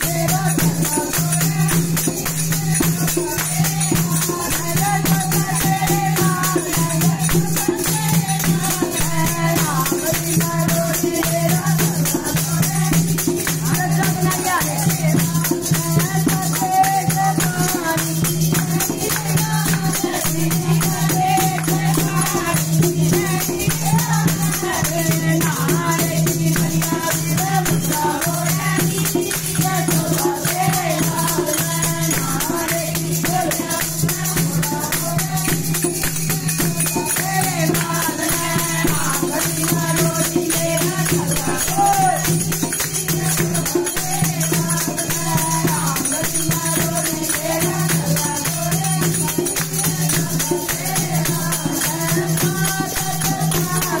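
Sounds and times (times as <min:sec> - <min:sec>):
jingling hand percussion: 0:00.0 - 0:54.0
women singing devotional song: 0:00.0 - 0:54.0.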